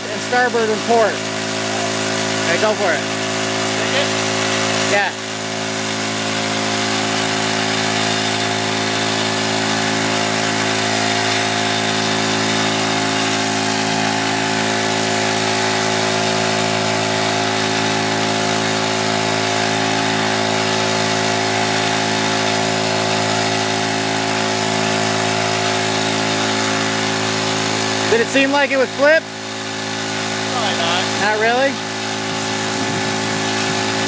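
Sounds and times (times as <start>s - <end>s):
small engine running steadily: 0.0s - 34.0s.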